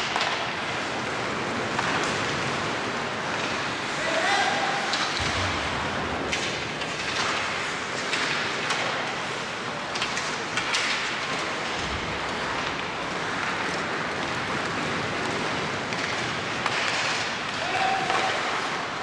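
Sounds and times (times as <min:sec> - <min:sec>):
hockey sticks and puck clacking: 0:00.0 - 0:19.0.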